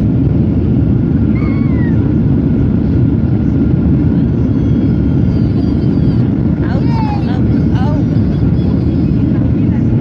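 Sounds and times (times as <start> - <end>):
airliner engines and airflow rumble: 0.0 - 10.0.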